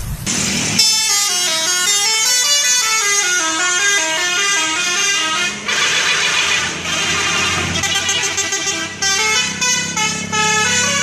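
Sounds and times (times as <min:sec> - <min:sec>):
musical air horn playing a tune: 0:00.9 - 0:11.0.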